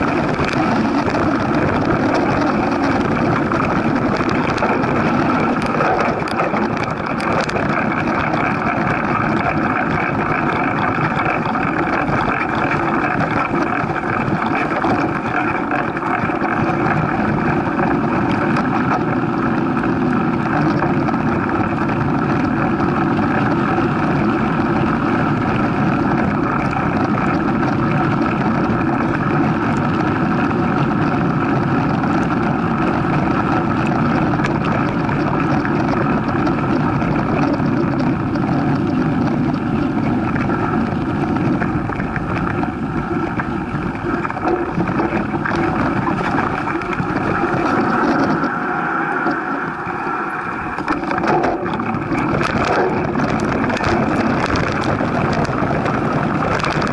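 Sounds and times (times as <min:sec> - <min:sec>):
bike tyre rumble: 0:00.0 - 0:56.9
wind on microphone: 0:00.0 - 0:56.9.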